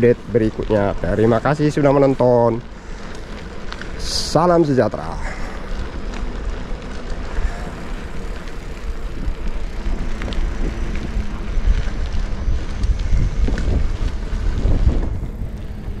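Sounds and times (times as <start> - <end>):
bicycle clicks and rattles: 0.0 - 16.0
wind buffeting microphone: 0.0 - 16.0.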